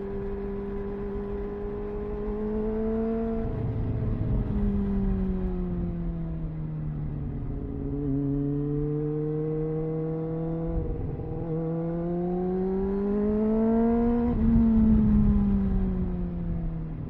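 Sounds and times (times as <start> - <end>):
motorcycle engine accelerating: 0.0 - 6.5, 7.1 - 17.0
wind and road noise: 0.0 - 17.0.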